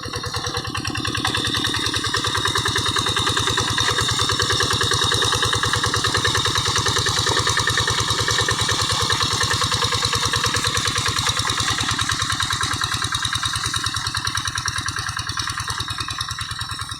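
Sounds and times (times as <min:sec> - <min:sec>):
diesel engine running steadily: 0:00.0 - 0:16.9.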